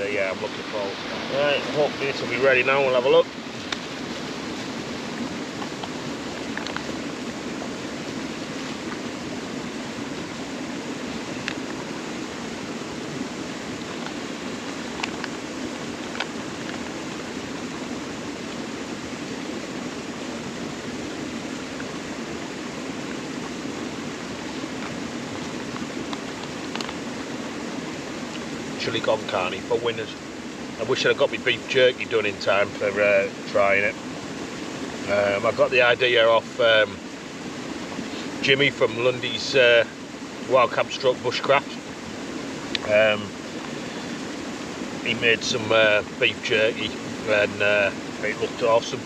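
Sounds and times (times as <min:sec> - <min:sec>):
waterfall and stream rushing: 0:00.0 - 0:49.0.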